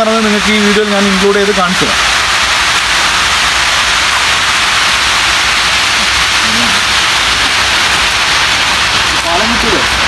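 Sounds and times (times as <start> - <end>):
water cascading over dam spillway: 0.0 - 10.0.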